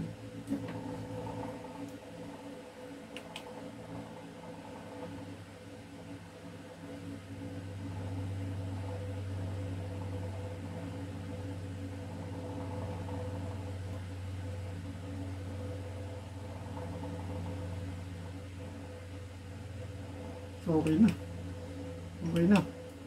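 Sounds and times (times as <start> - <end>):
electric fan motor humming: 0.0 - 23.0.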